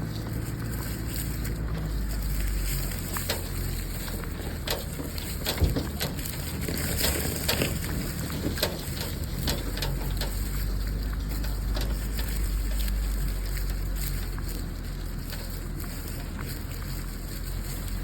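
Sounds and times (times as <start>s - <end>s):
crackles and clicks: 0.0s - 18.0s.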